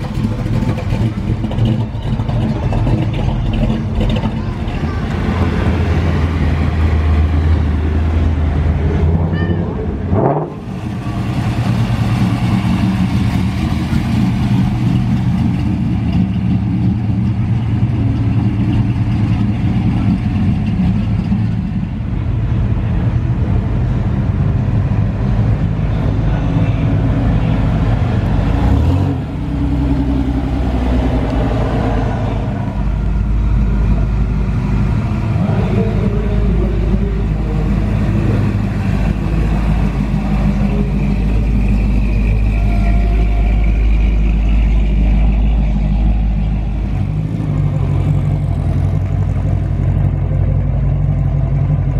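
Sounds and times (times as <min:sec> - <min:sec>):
car engines running: 0:00.0 - 0:51.9.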